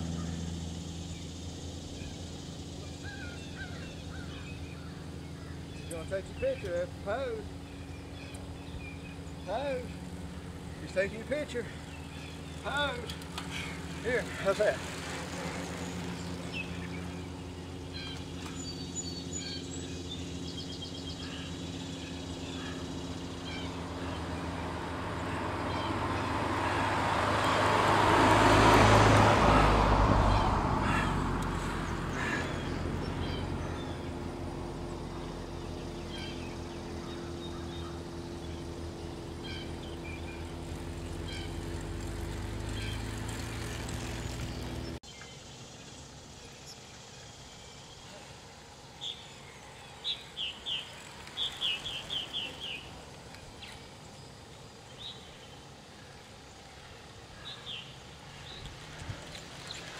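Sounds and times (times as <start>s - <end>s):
vehicle passing: 0.0s - 45.0s, 49.1s - 59.9s
low engine hum: 0.0s - 59.9s.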